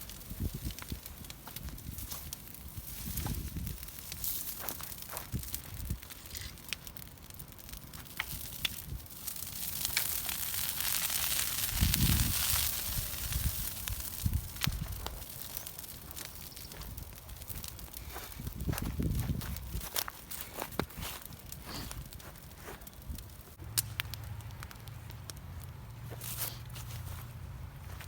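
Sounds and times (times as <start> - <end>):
sharp popping of fire: 0.0 - 27.0
wood fire crackling and hissing: 0.0 - 28.0.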